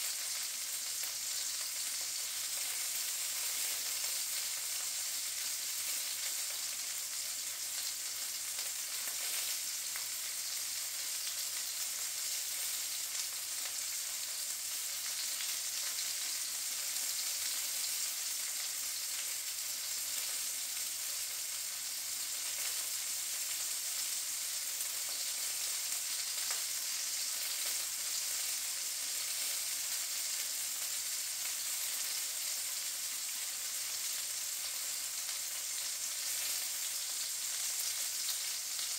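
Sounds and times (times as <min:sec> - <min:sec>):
sausages sizzling in a pan: 0:00.0 - 0:38.9.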